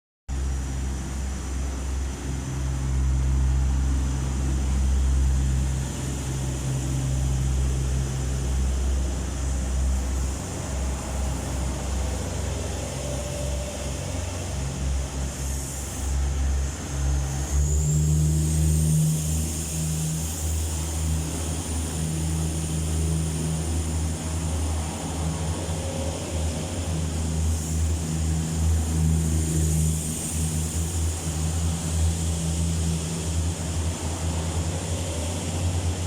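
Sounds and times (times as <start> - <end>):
diesel train engine rumbling: 0.3 - 36.0.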